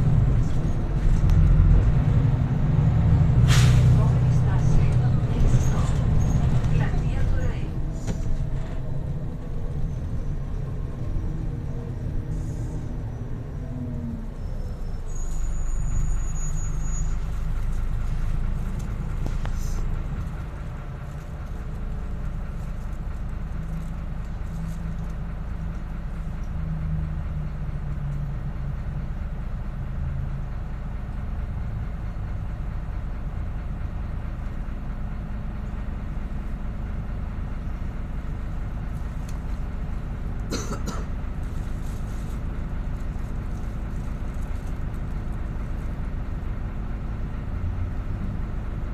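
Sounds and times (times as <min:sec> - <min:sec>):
bus diesel engine drone: 0:00.0 - 0:48.9.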